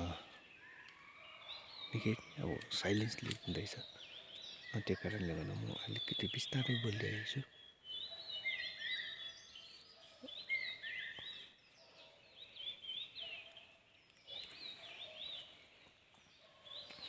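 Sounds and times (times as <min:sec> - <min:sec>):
songbirds whistling: 0:00.0 - 0:17.0.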